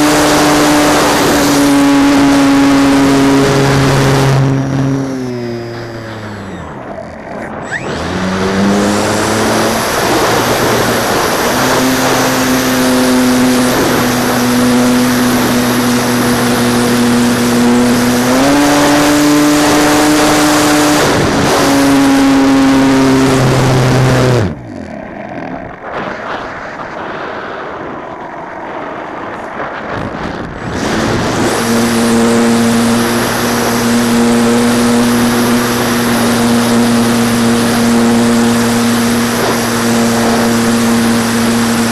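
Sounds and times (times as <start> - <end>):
model plane motor buzzing: 0.0 - 26.9, 28.3 - 41.9.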